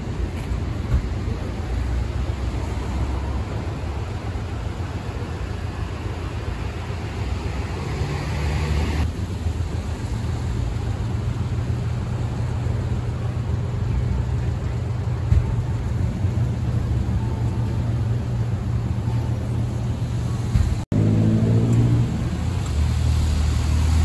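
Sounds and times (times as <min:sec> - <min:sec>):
low rumble of traffic: 0:00.0 - 0:24.0.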